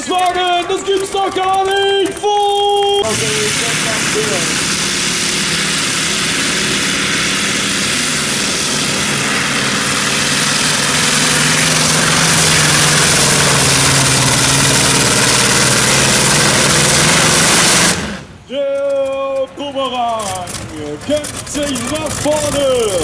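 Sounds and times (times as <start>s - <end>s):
tractor engine at full throttle: 0.0s - 23.0s.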